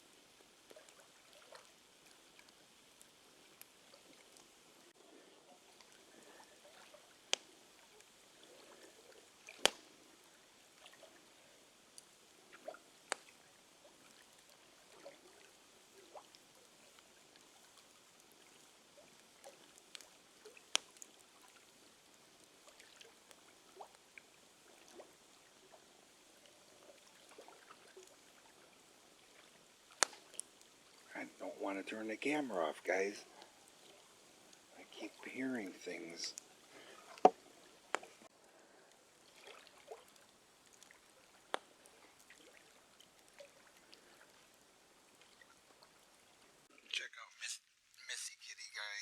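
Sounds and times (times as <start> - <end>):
wood fire crackling: 0.0 - 46.8.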